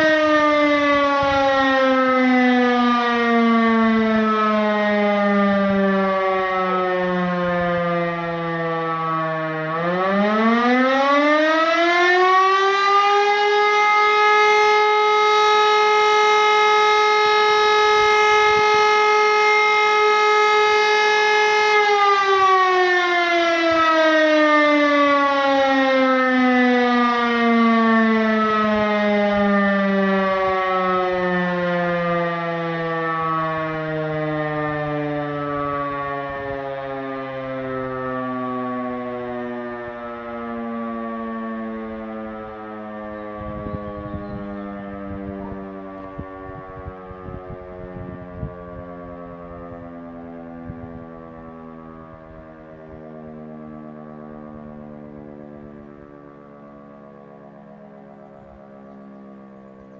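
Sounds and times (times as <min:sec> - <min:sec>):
civil defence warning siren: 0:00.0 - 0:59.9.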